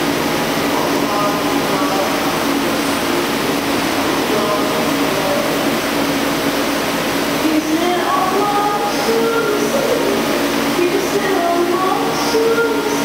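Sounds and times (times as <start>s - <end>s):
cnc machine running: 0.0s - 13.0s.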